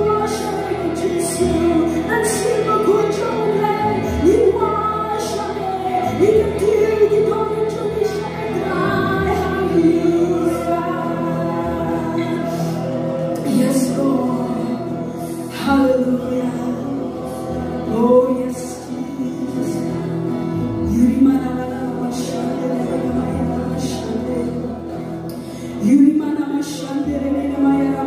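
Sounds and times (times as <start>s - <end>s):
acoustic guitar: 0.0s - 28.0s
women singing together: 0.0s - 28.0s.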